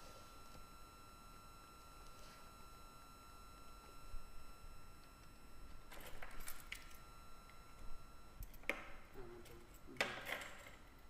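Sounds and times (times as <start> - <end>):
faint electronic whine: 0.0 - 11.0.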